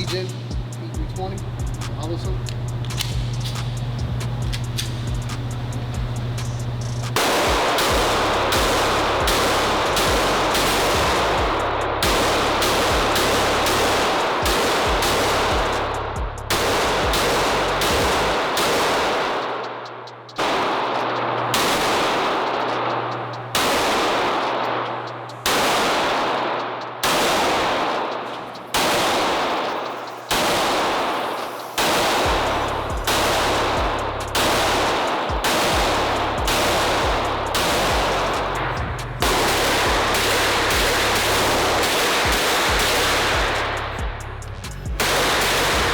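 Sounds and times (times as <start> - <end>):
echoing pistol shots: 7.1 - 15.9, 16.5 - 44.0, 45.0 - 45.9.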